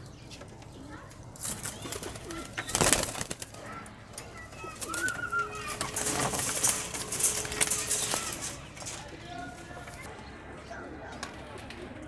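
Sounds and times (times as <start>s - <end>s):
pigeons cooing: 0.0s - 12.0s
clicks and rustling: 0.3s - 10.1s.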